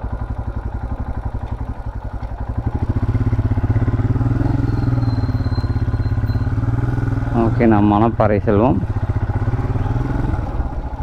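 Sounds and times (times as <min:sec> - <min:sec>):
motorcycle engine pulsing: 0:00.0 - 0:11.0.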